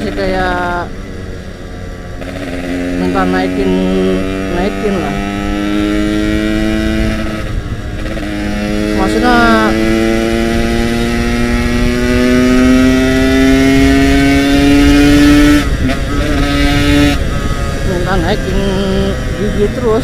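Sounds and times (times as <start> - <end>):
two-stroke motorcycle engine: 0.0 - 20.0.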